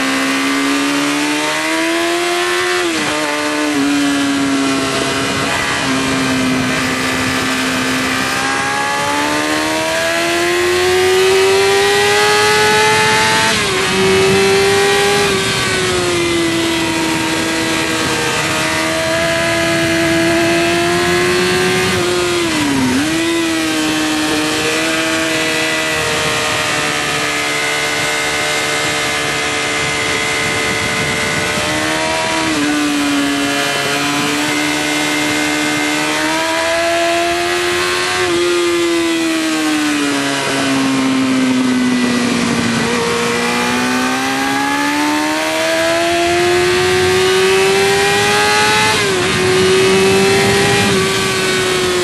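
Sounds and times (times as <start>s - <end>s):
motorcycle engine at high revs: 0.0s - 52.0s
rush of wind: 0.0s - 52.0s.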